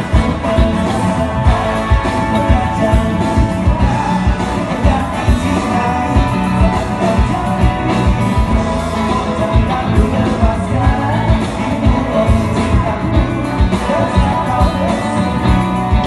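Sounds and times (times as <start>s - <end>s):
electric guitars: 0.0s - 16.0s
keyboard: 0.0s - 16.0s.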